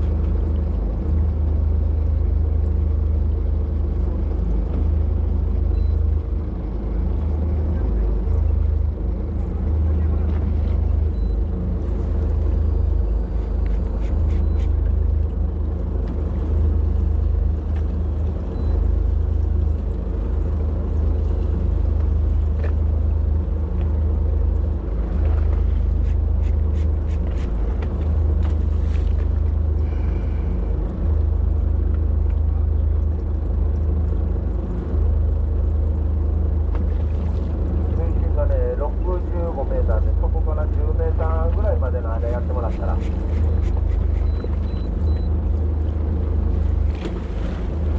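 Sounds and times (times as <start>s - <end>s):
boat engine droning: 0.0s - 47.9s.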